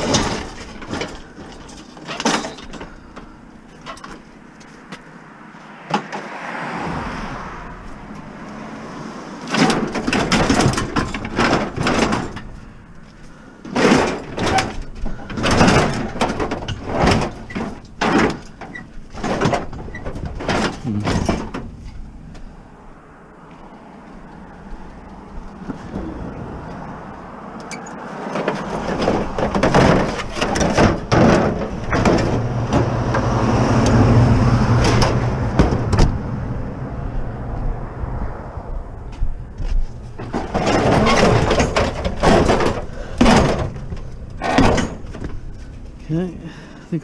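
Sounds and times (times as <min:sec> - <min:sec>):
scrap metal clanking and scraping: 0:00.0 - 0:05.2, 0:07.8 - 0:22.9, 0:23.6 - 0:36.2, 0:39.0 - 0:47.0.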